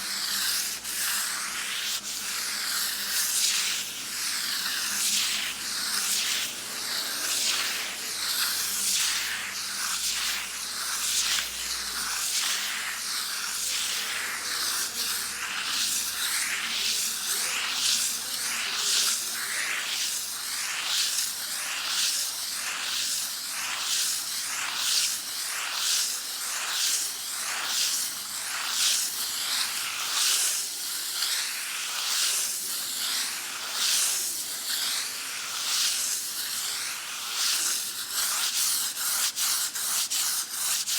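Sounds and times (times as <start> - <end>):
sandpaper scraping on a wall: 0.0 - 40.9.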